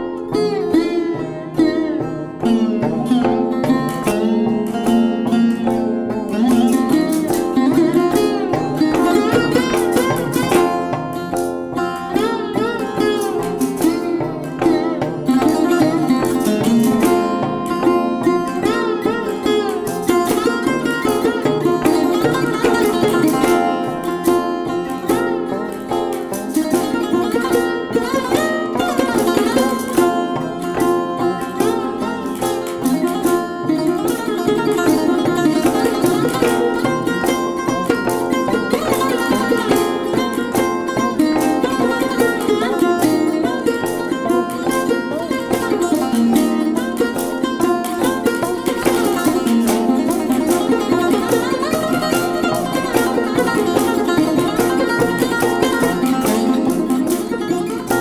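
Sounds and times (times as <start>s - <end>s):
plucked string instruments: 0.0s - 58.0s.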